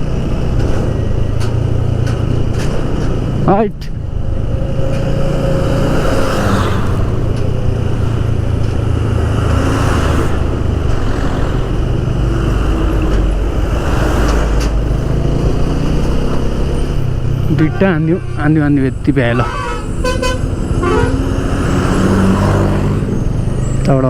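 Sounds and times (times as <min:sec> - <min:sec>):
wind and road noise: 0:00.0 - 0:24.0.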